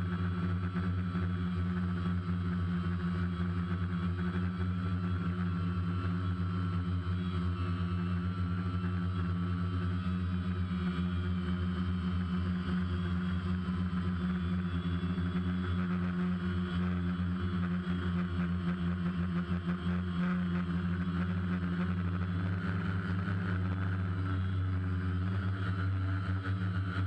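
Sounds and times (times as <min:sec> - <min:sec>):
drone propellers humming: 0:00.0 - 0:27.0.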